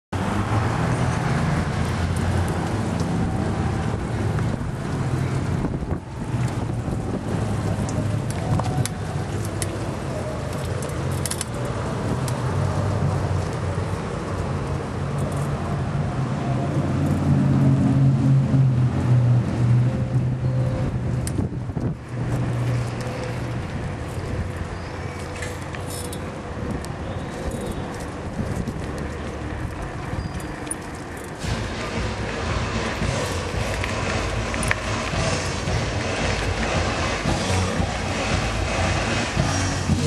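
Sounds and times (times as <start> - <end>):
bicycle rolling over pavement: 0.2 - 17.4, 21.0 - 40.0
wind rumble on microphone: 0.2 - 40.0.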